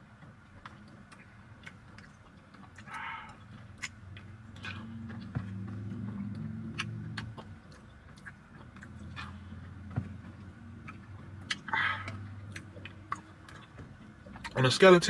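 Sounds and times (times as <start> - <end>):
low hum: 0.0 - 14.6
chewing and mouth sounds: 0.2 - 14.8.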